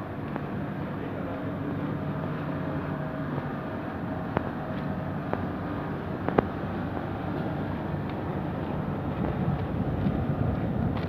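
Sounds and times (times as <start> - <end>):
faint motor hum: 0.0 - 11.0
train rolling rumble: 0.0 - 11.0.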